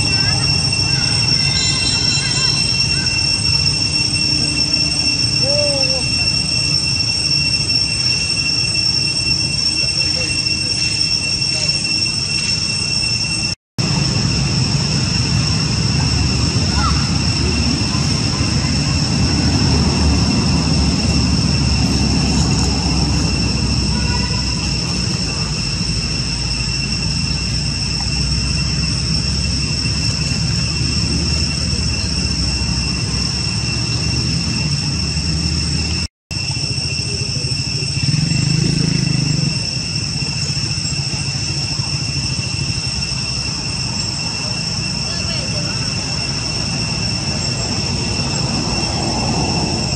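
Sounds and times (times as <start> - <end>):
insect drone: 0.0 - 49.9.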